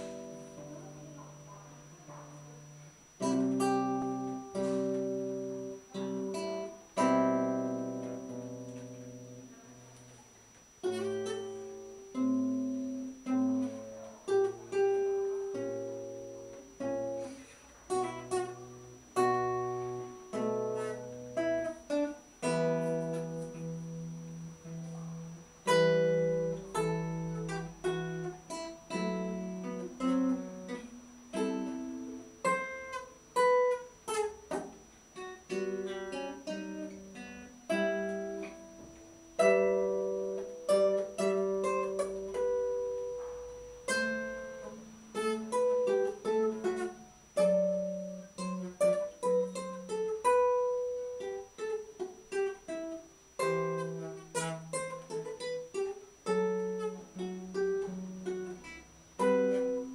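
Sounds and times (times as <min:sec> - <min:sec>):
classical guitar playing: 0:00.0 - 0:59.9.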